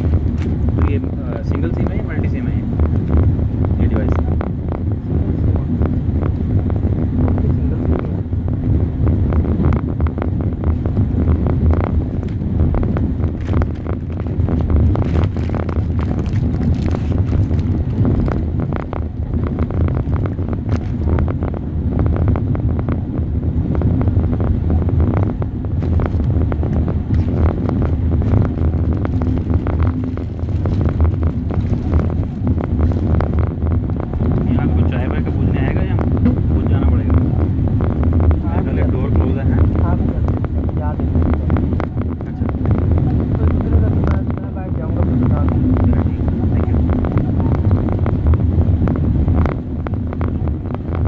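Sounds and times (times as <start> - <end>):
train low rumble: 0.0 - 51.0
wind noise on microphone: 0.0 - 51.0.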